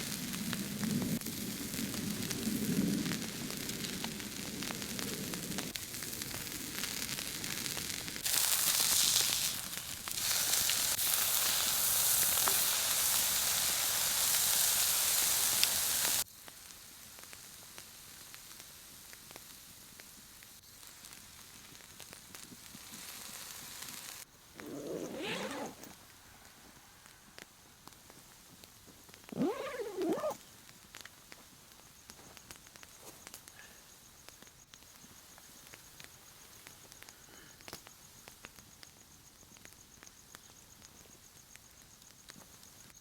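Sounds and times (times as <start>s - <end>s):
campfire sizzling and crackling: 0.0s - 43.0s.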